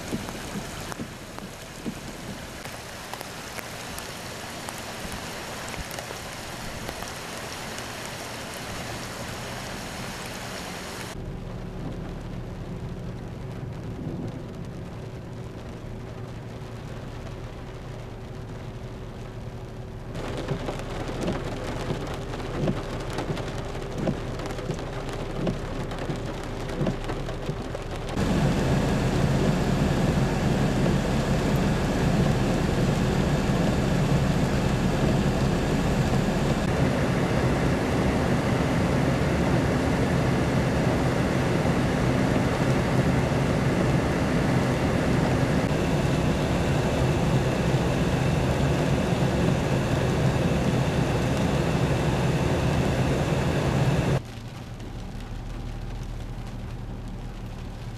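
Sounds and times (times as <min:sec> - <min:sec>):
heavy rain splashing on water: 0:00.0 - 0:57.9.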